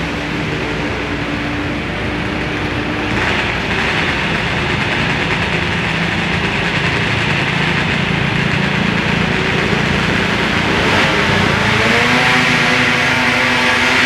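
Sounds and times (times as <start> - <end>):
pulling tractor engine running: 0.0 - 14.0.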